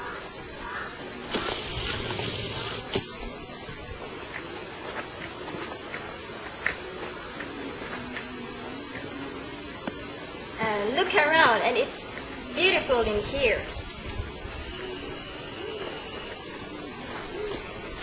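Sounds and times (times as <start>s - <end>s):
insect chorus buzzing: 0.0s - 18.0s.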